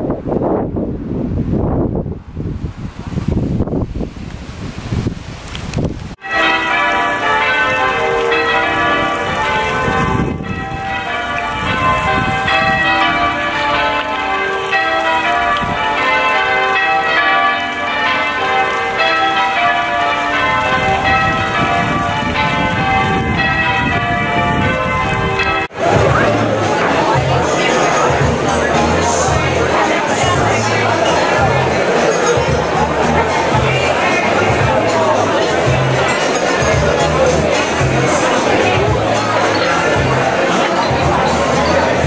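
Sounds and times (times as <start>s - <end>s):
church bells ringing a peal: 6.2s - 42.0s.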